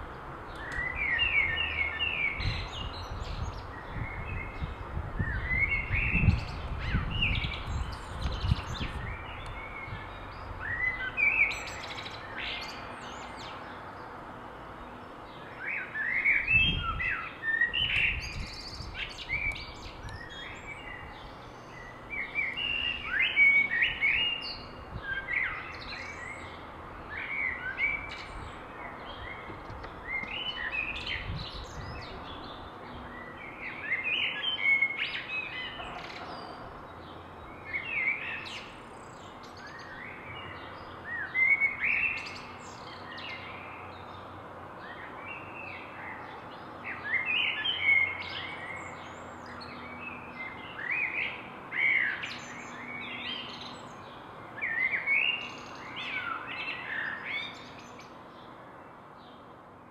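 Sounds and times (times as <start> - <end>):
songbirds chirping: 0.0 - 59.9
steady outdoor hiss: 0.0 - 59.9.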